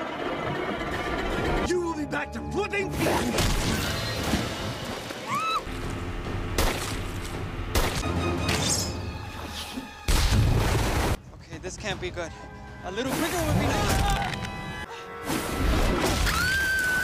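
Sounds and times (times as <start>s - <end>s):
film soundtrack music: 0.0s - 17.0s.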